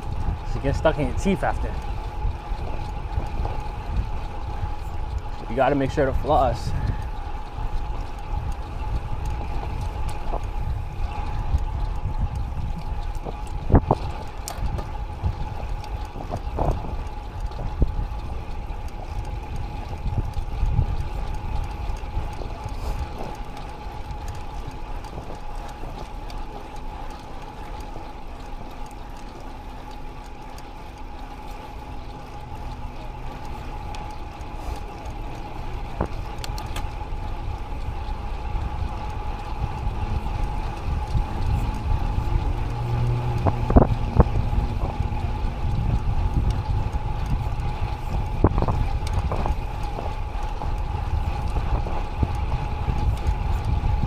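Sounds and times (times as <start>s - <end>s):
low hum: 0.0s - 54.0s
thin steady whine: 0.0s - 54.0s
tyres rumbling on pavement: 0.0s - 54.0s
wind buffeting microphone: 0.0s - 54.0s.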